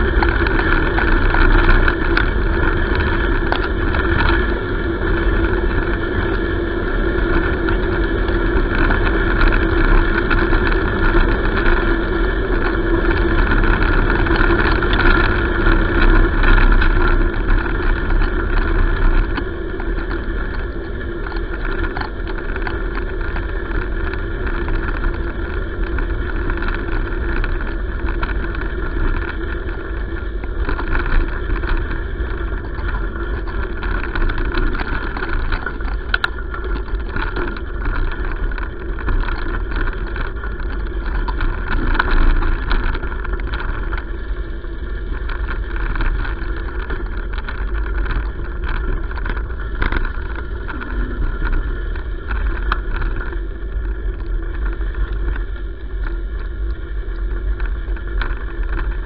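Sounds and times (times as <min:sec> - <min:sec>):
faint steady hum: 0:00.0 - 0:59.0
wheels rolling on road: 0:00.0 - 0:59.0.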